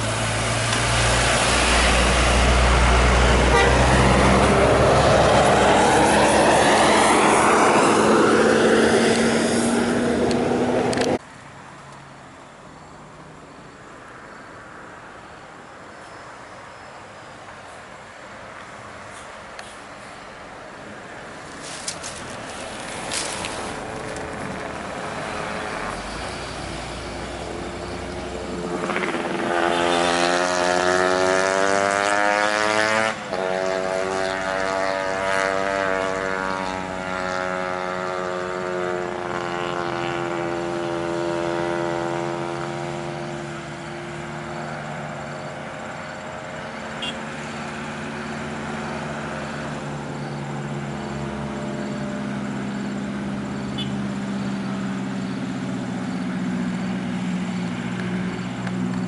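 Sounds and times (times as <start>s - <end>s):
diesel bus engine passing: 0.0s - 59.0s.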